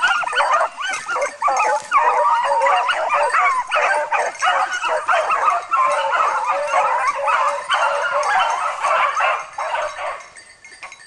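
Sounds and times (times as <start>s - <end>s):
beagles baying: 0.0s - 10.4s.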